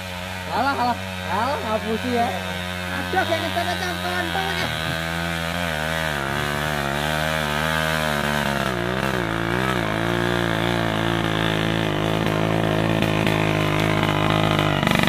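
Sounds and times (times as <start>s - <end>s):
motorcycle engine under load: 0.0s - 15.0s.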